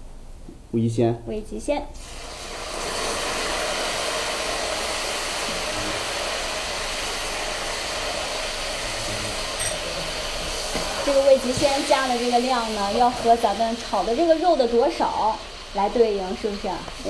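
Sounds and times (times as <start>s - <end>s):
meat sizzling in a wok: 2.0s - 17.0s.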